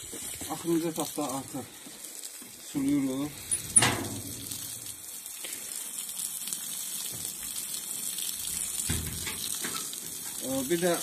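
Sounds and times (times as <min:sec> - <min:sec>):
water splashing onto soil and straw: 0:00.0 - 0:11.0.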